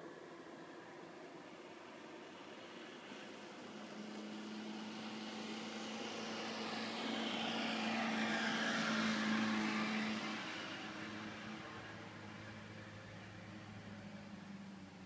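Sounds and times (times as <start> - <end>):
passing vehicle engine hum: 0.1 - 15.0.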